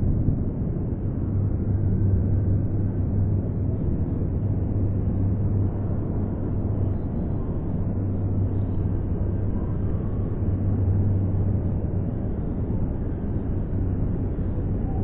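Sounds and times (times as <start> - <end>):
constant low hum: 0.0 - 15.0
low outdoor rumble: 0.0 - 15.0.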